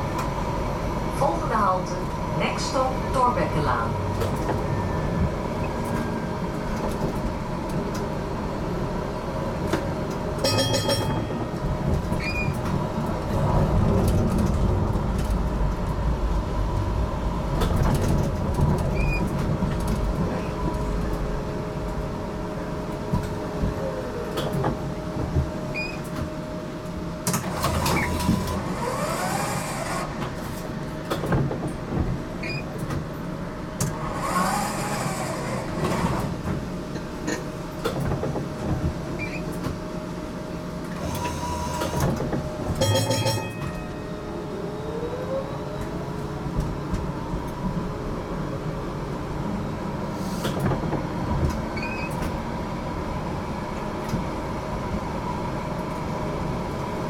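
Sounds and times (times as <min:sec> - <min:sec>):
tram wheel-on-rail rumble: 0:00.0 - 0:57.0.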